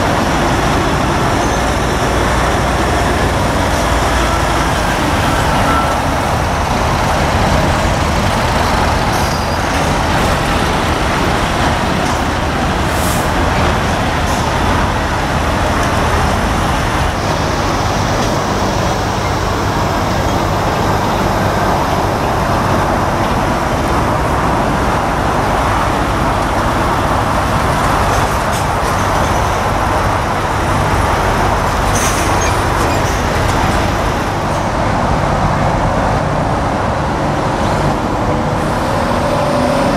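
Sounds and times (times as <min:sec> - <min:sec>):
lorry engines rumbling: 0:00.0 - 0:39.9.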